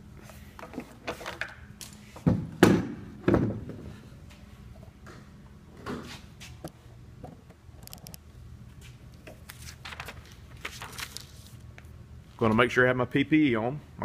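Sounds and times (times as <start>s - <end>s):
low room tone hum: 0.0s - 14.0s.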